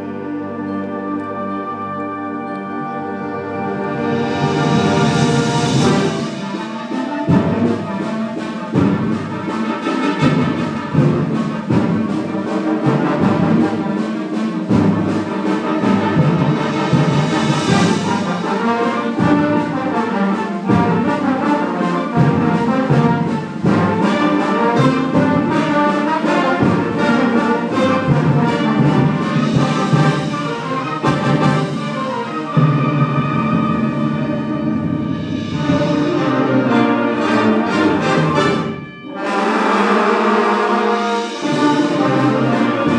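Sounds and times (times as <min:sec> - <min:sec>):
concert band playing: 0:00.0 - 0:42.9
percussion hits: 0:03.6 - 0:42.9.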